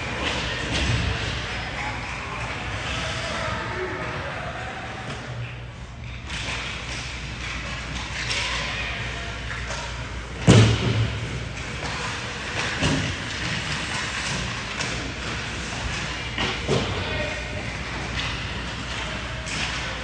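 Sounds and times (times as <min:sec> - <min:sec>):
hubbub of game: 0:00.0 - 0:20.0.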